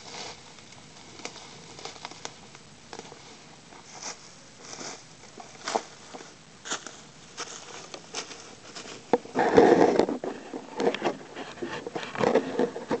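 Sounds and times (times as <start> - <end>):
dry leaves crackling: 0.0 - 10.5
leafy branches rustling: 0.0 - 13.0.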